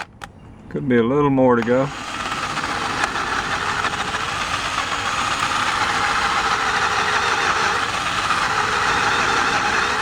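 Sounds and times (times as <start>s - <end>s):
electric drill cutting metal: 1.6s - 10.0s.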